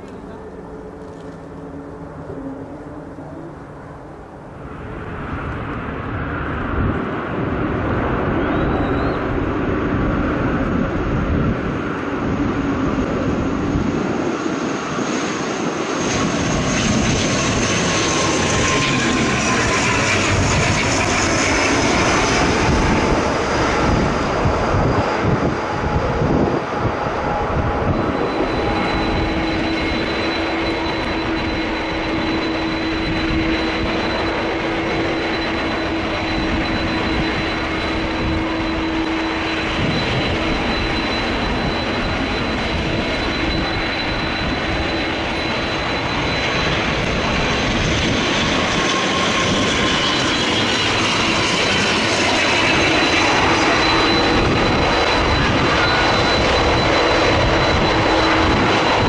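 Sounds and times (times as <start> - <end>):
turboprop engines roaring: 0.0 - 59.0.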